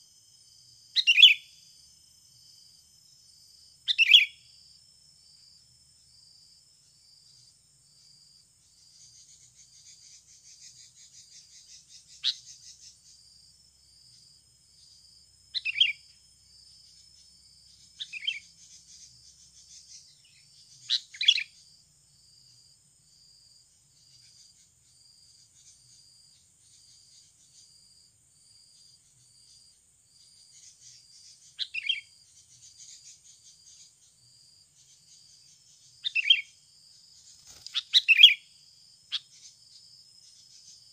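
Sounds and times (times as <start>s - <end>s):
faint high insect buzz: 0.0s - 40.9s.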